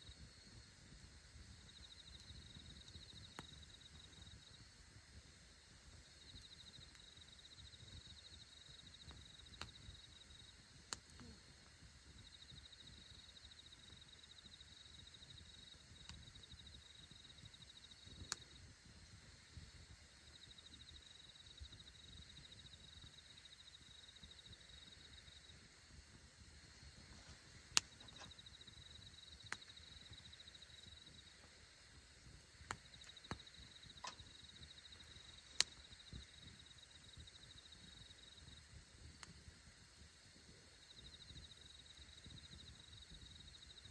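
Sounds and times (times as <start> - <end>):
wood fire crackling and popping: 0.0 - 4.4, 5.2 - 21.2, 22.4 - 41.4
insect trill: 0.0 - 43.9.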